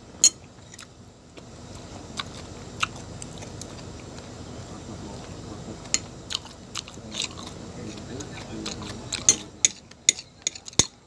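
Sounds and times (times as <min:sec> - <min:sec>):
person chewing food: 0:00.5 - 0:04.4, 0:05.2 - 0:11.0.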